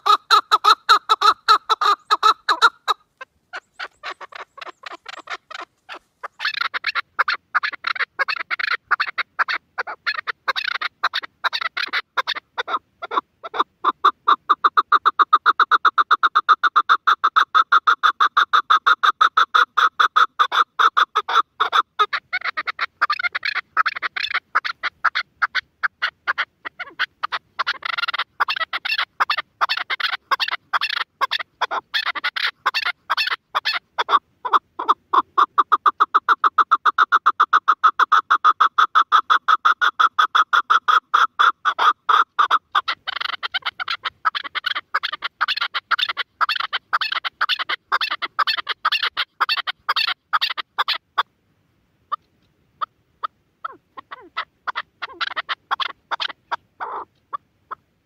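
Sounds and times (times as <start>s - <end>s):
partridge calling: 0.0s - 51.3s, 52.1s - 57.8s.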